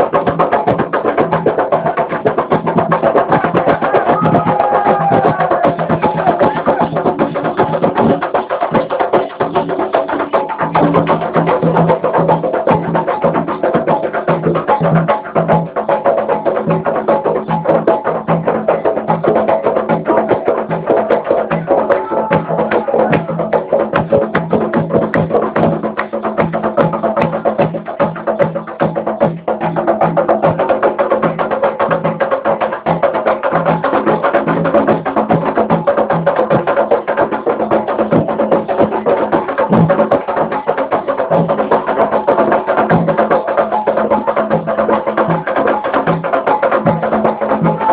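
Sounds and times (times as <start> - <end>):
percussion-driven music: 0.0 - 47.9.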